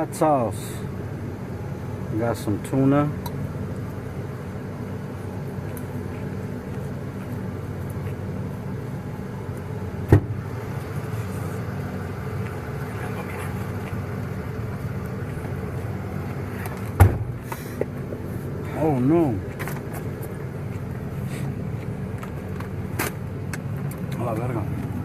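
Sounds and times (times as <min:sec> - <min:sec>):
motor vehicle humming: 0:00.0 - 0:25.0.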